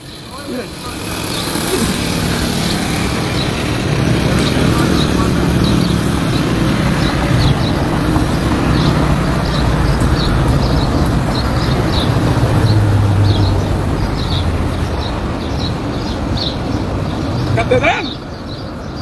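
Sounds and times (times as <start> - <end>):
small birds chirping: 0.0 - 19.0
street traffic noise: 0.0 - 19.0.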